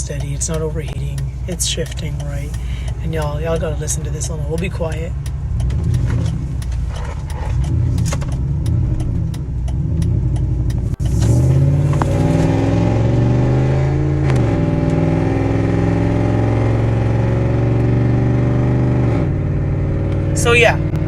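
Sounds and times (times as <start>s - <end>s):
loud truck exhaust droning: 0.0s - 21.0s.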